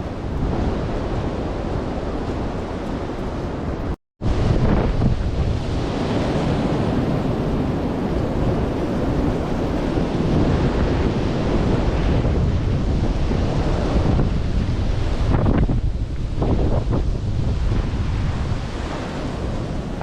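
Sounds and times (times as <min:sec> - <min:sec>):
wind buffeting microphone: 0:00.0 - 0:20.0
wind rushing through trees: 0:00.0 - 0:20.0.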